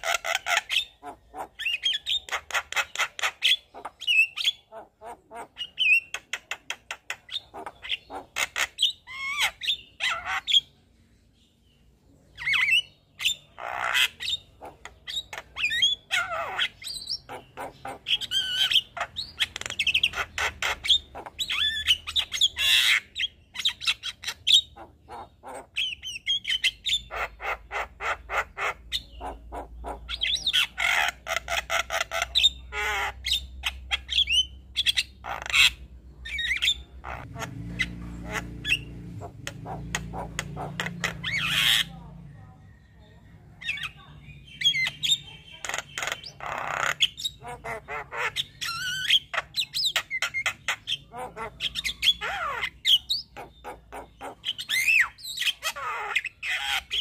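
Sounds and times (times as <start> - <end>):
myna bird singing: 0.0 - 57.0.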